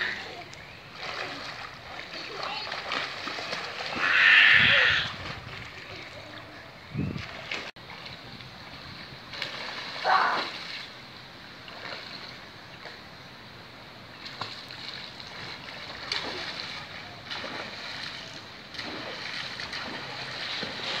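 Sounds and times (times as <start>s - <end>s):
splashes from swimming strokes: 0.0s - 6.6s, 7.2s - 8.3s, 9.2s - 13.0s, 14.1s - 21.0s
wash of moving water: 0.0s - 21.0s.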